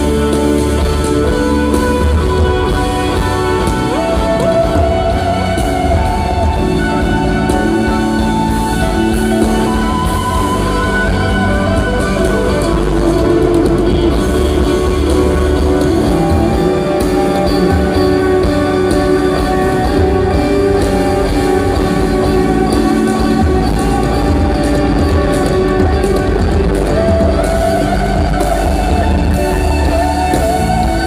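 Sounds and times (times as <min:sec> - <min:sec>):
drum kit: 0:00.0 - 0:31.0
electric guitar: 0:00.0 - 0:31.0
keyboards: 0:00.0 - 0:31.0.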